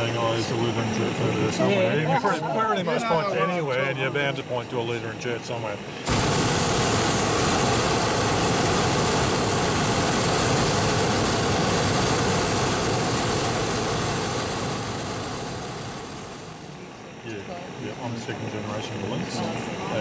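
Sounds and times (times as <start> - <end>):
propane burner firing: 0.0 - 20.0.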